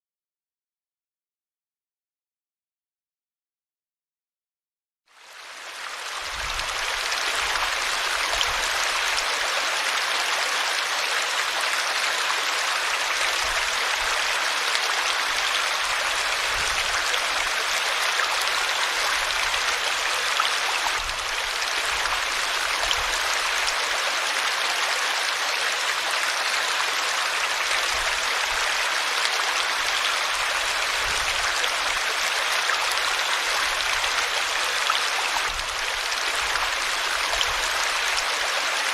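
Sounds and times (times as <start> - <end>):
river water flowing: 5.2 - 38.9.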